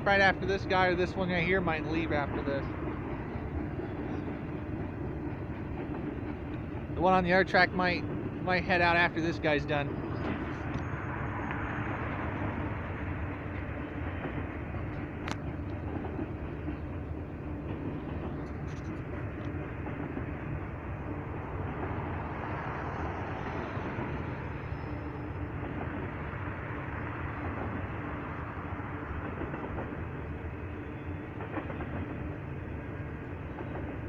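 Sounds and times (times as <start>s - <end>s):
train wheels on track: 0.0s - 34.0s.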